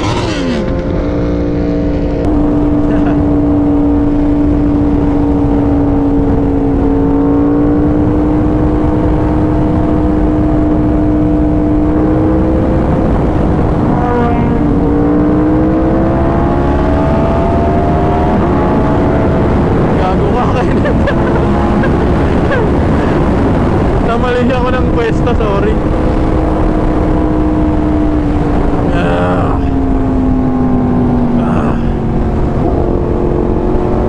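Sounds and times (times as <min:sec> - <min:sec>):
motorcycle engine running: 0:00.0 - 0:34.0
wind rush on microphone: 0:00.0 - 0:34.0.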